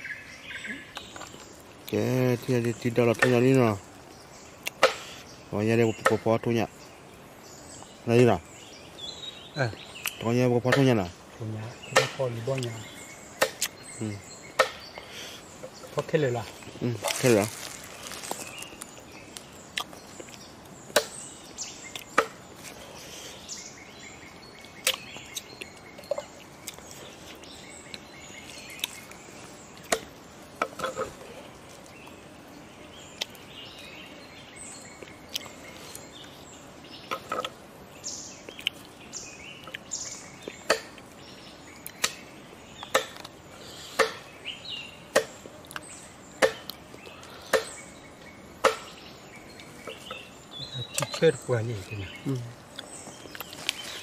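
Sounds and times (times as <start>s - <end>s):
faint outdoor background: 0.0s - 54.0s.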